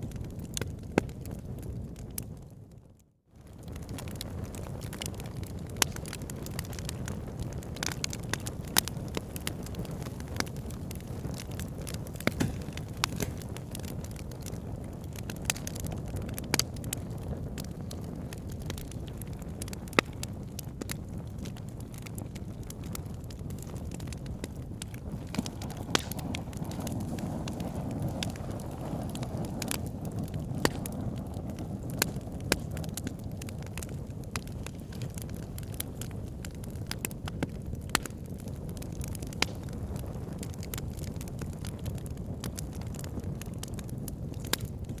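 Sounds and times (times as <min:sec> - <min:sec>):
fire crackling in fireplace: 0:00.0 - 0:45.0.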